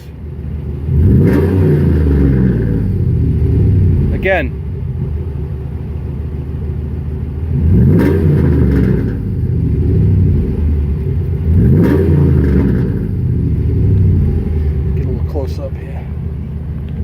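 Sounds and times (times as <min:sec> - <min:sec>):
truck engine idling and revving: 0:00.0 - 0:17.0.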